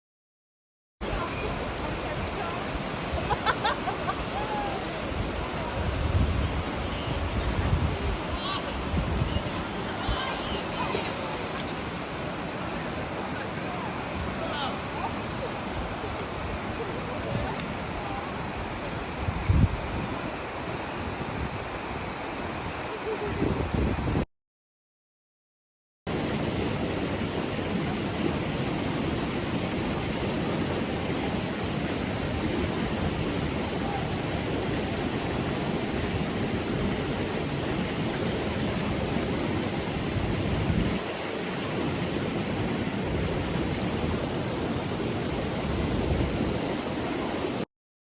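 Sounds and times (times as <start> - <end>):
stream rushing over rocks: 1.0 - 24.2, 26.1 - 47.7.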